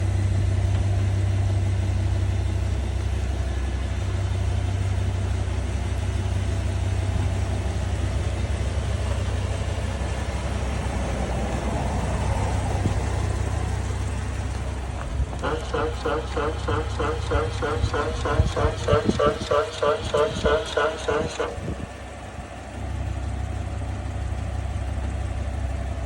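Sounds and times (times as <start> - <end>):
car engine low hum: 0.0 - 26.0.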